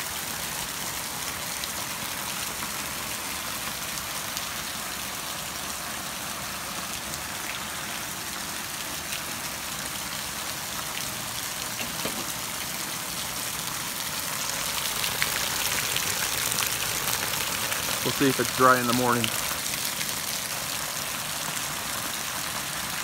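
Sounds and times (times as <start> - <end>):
rain falling on a tent: 0.0 - 23.0.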